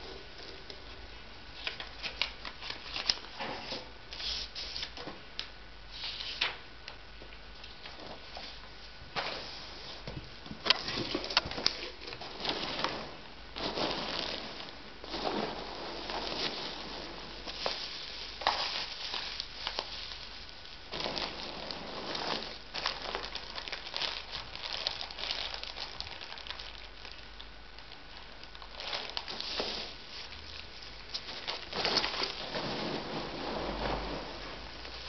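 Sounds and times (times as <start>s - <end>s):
wrapping crinkling and rustling: 0.0s - 5.1s, 10.6s - 35.0s.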